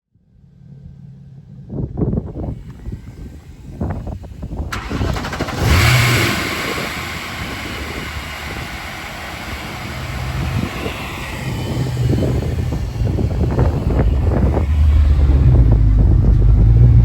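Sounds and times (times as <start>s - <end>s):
car engine starting and idling: 0.3s - 17.0s.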